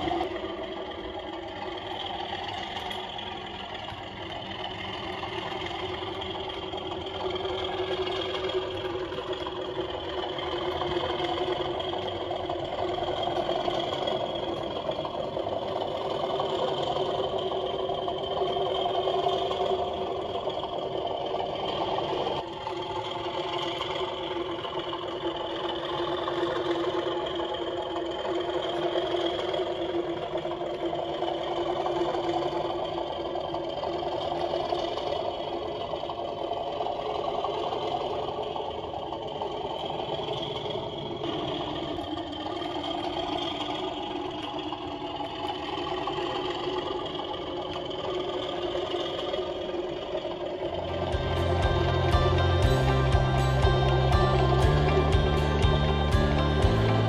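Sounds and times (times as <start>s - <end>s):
diesel engine sound from small speaker: 0.0s - 57.0s.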